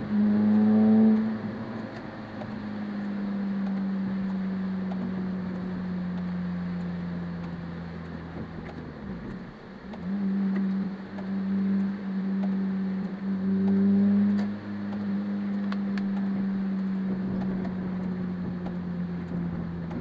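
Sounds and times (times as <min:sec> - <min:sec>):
car engine running: 0:00.0 - 0:20.0
rain: 0:00.0 - 0:20.0.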